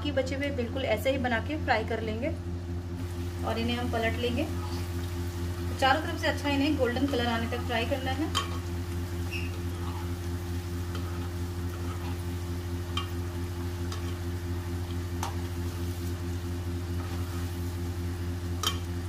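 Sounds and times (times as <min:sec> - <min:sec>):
low hum: 0:00.0 - 0:19.0
food deep-frying in oil: 0:02.7 - 0:19.0.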